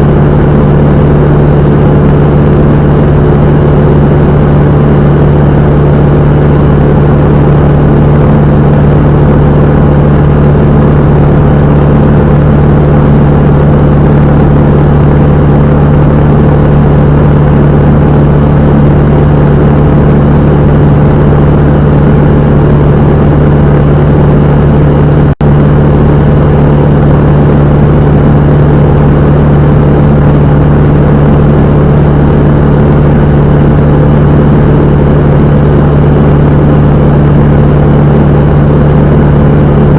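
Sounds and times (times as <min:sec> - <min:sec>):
propeller plane engine running: 0:00.0 - 0:39.9.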